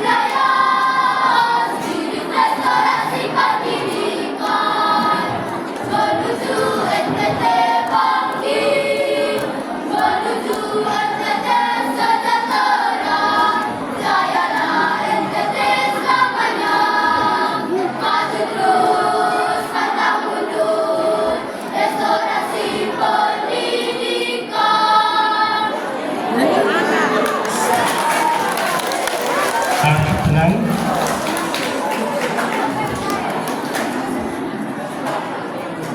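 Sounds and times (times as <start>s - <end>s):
children's choir singing: 0.0s - 35.9s.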